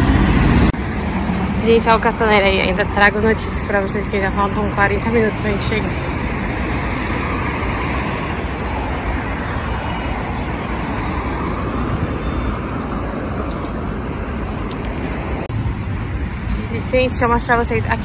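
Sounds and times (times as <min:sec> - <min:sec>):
cars driving past: 0:00.0 - 0:18.0.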